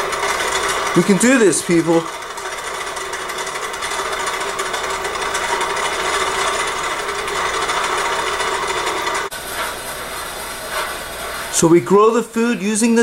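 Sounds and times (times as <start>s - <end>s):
treadmill mechanical whir: 0.0s - 13.0s.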